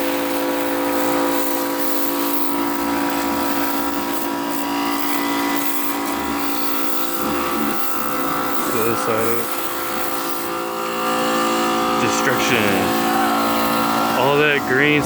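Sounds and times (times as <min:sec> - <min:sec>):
pressure washer motor humming: 0:00.0 - 0:15.0
water jet hissing: 0:00.0 - 0:15.0.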